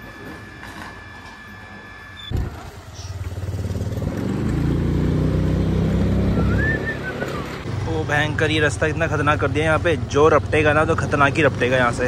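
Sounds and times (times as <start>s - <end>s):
motor scooter engine running: 2.3s - 12.0s.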